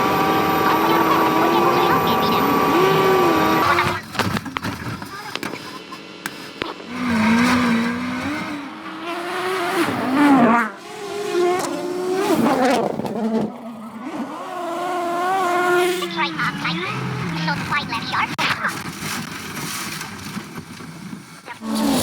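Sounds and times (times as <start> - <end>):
rally car engine revving: 0.0 - 20.4, 21.5 - 22.0.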